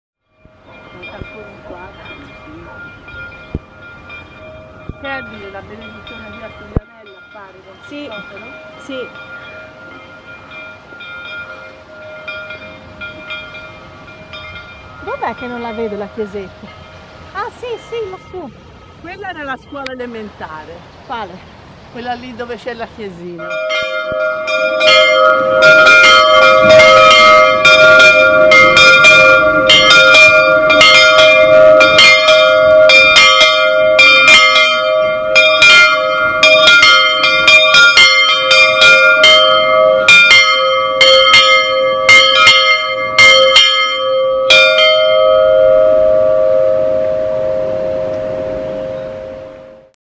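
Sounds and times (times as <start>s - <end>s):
church bells ringing: 0.3s - 20.7s, 22.0s - 49.9s.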